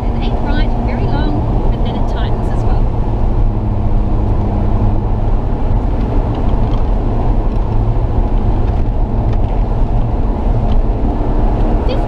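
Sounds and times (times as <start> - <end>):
rally car engine running: 0.0 - 12.0
tyre and road noise: 0.0 - 12.0.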